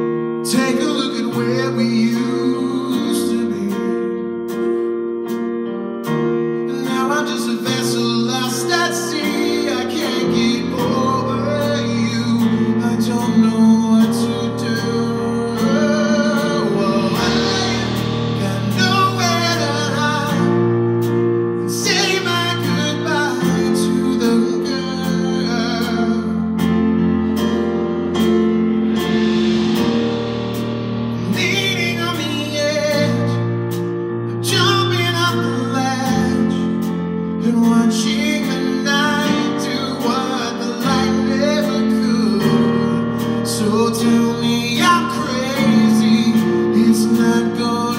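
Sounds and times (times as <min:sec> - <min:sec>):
man singing into a microphone: 0:00.0 - 0:04.8, 0:06.6 - 0:27.7, 0:31.2 - 0:47.9.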